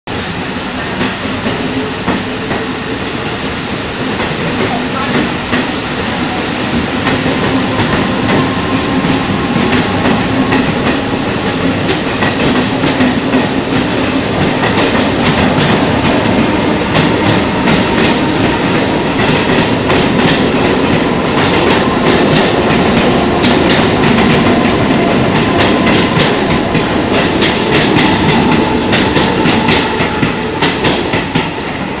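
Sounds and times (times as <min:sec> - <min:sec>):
train carriages rumbling: 0:00.1 - 0:32.0
train wheels clicking on rail joints: 0:00.7 - 0:32.0.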